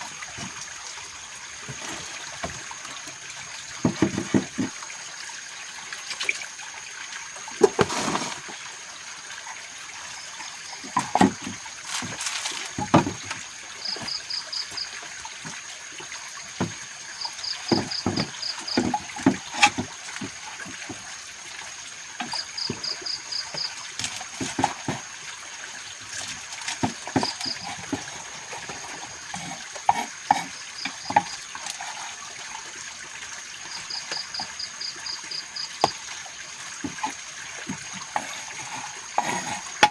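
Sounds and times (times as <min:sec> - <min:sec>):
outdoor hiss: 0:00.0 - 0:39.9
water trickling: 0:00.0 - 0:39.9.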